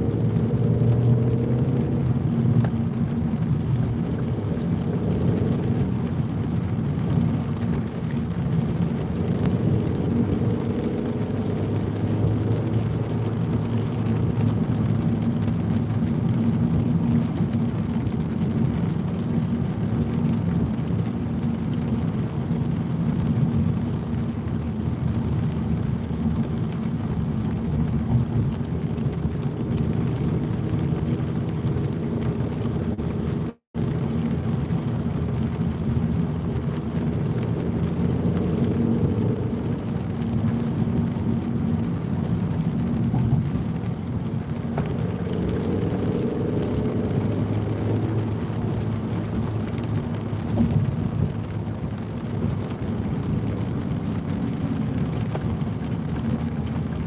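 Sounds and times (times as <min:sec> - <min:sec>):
city traffic rumble in rain: 0:00.0 - 0:57.0.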